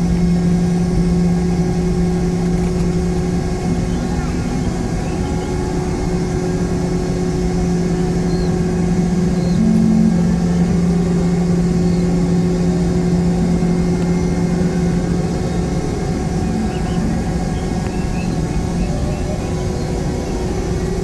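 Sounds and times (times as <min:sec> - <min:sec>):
jet engine hum in aircraft cabin: 0:00.0 - 0:21.0.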